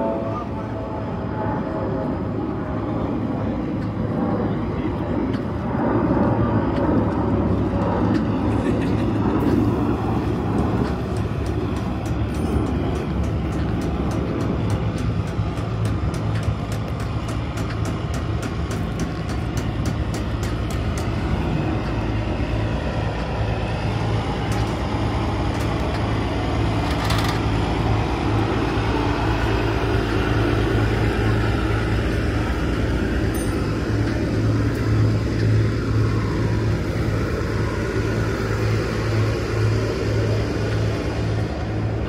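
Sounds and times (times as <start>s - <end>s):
engine running: 0.0s - 42.0s
outdoor noise: 0.0s - 42.0s.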